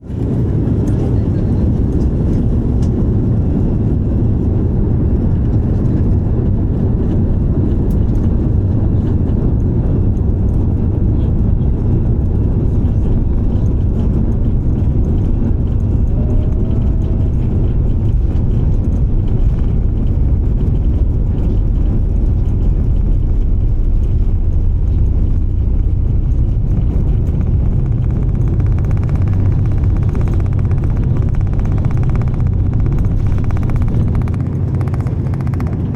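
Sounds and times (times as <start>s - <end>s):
jet engines at takeoff power: 0.0s - 35.9s.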